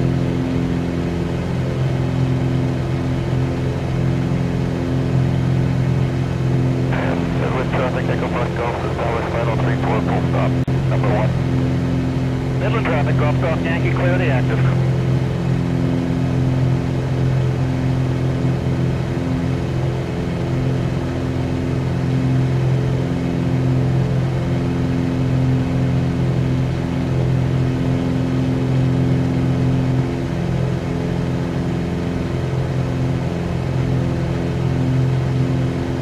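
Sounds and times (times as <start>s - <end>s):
airplane engine drone: 0.0s - 36.0s.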